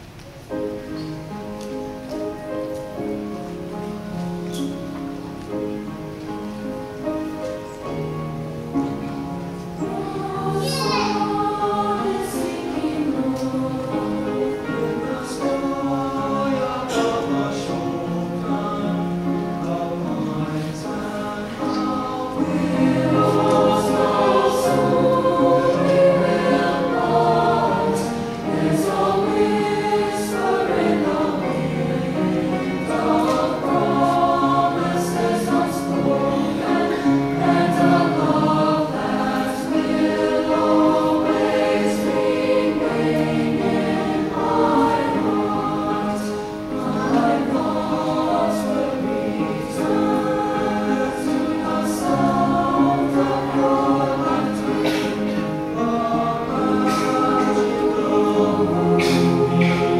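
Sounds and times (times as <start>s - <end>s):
mixed choir singing: 2.1s - 59.9s.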